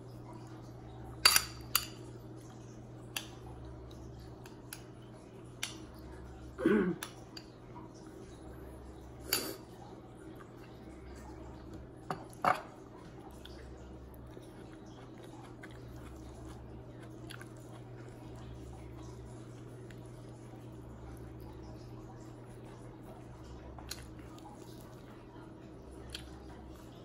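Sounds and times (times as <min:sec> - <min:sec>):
quiet chewing: 0:02.1 - 0:27.0.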